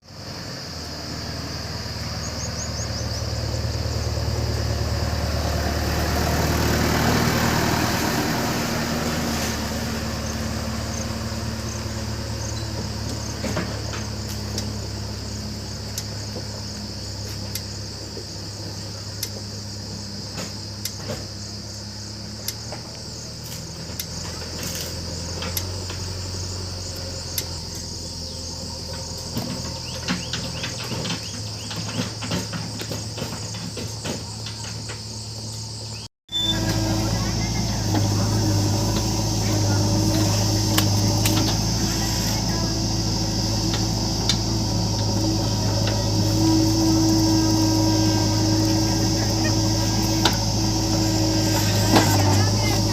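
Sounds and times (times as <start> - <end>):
backhoe diesel engine digging: 0.0 - 52.9
insects chirping: 0.0 - 52.9.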